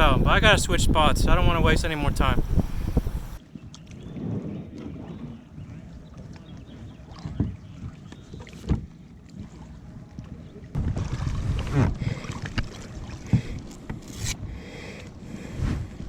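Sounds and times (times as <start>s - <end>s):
wind buffeting microphone: 0.0s - 8.9s, 10.8s - 16.0s
paddle splashing water: 2.5s - 16.0s.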